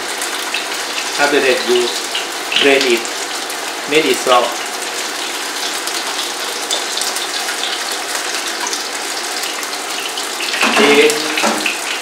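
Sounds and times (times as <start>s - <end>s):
noodles sizzling in frying pan: 0.0s - 12.0s.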